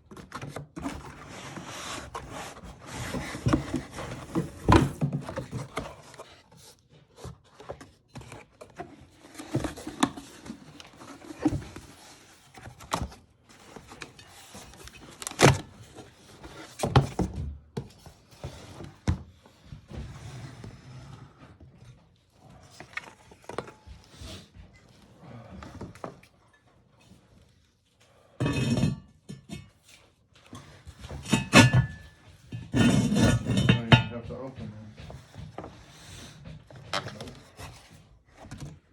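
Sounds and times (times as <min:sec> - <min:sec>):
packaging rustling and scraping: 0:00.0 - 0:34.5.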